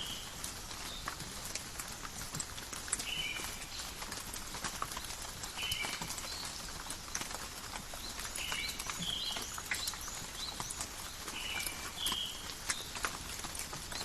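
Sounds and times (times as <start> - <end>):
raindrops pattering on leaves: 0.0 - 14.0.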